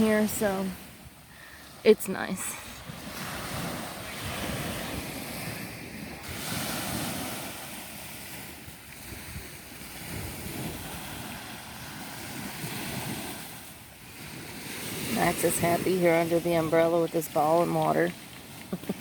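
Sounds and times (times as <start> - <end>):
small waves washing onto beach: 0.0 - 19.0
wind buffeting microphone: 0.0 - 19.0.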